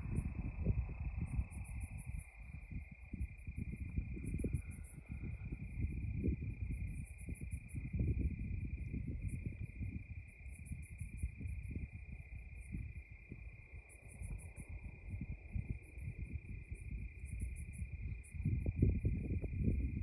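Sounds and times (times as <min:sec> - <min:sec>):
crickets trilling: 0:00.0 - 0:20.0
wind buffeting microphone: 0:00.0 - 0:20.0.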